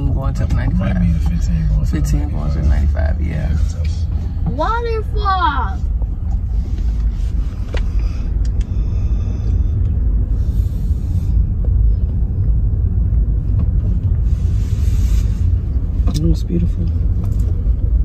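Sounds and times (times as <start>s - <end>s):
car driving heard from cabin: 0.0s - 18.0s.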